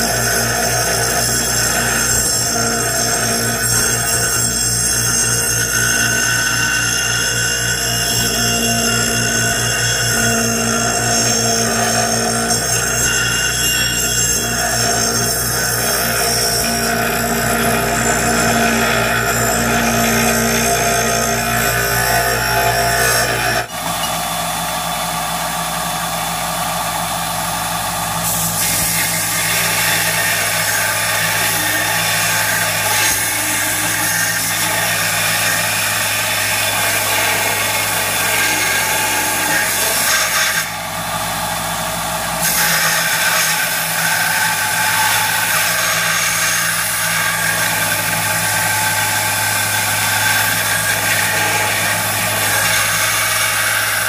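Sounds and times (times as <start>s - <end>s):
bench grinder motor humming: 0.0s - 54.0s.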